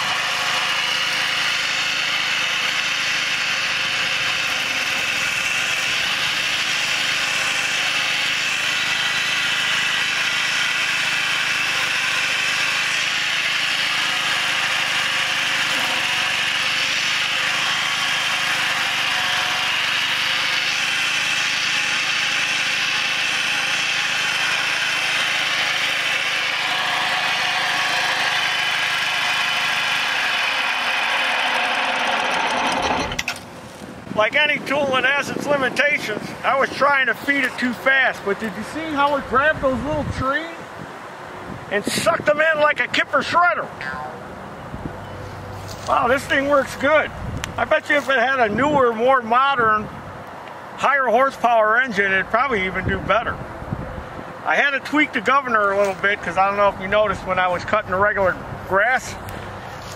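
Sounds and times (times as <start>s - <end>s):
blades cutting through brush: 0.0s - 40.5s, 45.2s - 50.5s, 54.4s - 59.9s
flail mower running: 0.0s - 59.9s.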